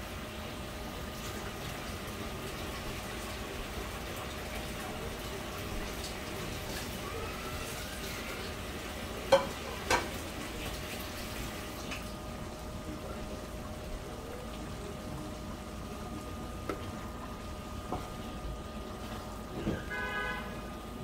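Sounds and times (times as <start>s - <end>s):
curry bubbling in a frying pan: 0.0s - 21.0s.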